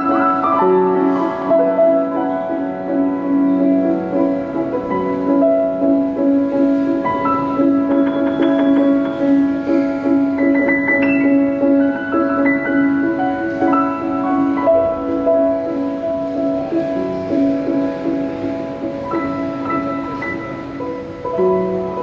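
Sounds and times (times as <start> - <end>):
solo grand piano: 0.0 - 22.0.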